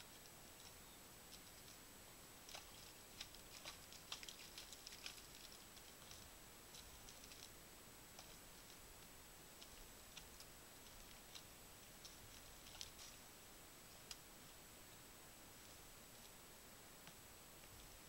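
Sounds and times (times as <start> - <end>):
faint steady hiss: 0.0 - 18.0
soft irregular clicks and patters: 0.0 - 18.0.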